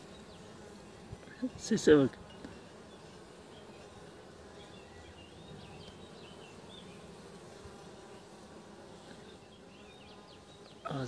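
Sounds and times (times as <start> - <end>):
honeybees humming: 0.0 - 11.0.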